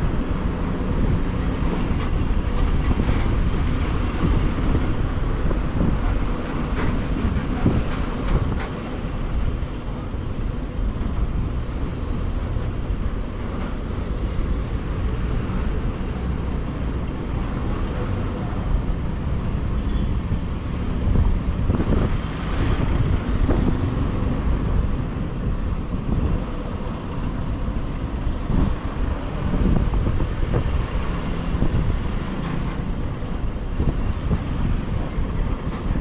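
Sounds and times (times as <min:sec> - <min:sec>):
road noise: 0:00.0 - 0:36.0
wind buffeting microphone: 0:00.0 - 0:36.0.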